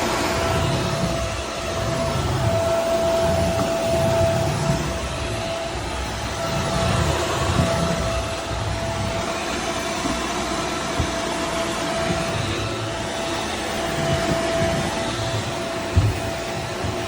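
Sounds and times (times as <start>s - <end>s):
vacuum cleaner motor whirring: 0.0s - 17.0s.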